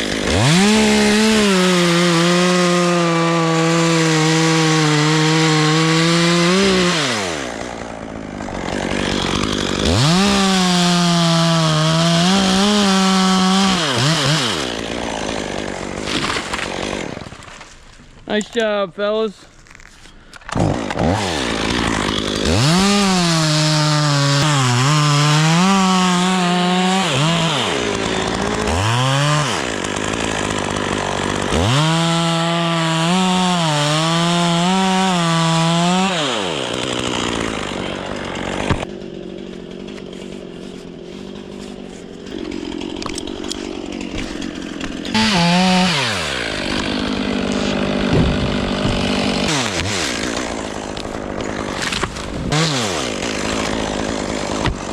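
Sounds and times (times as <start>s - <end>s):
chainsaw cutting wood: 0.0s - 18.8s, 19.6s - 54.9s.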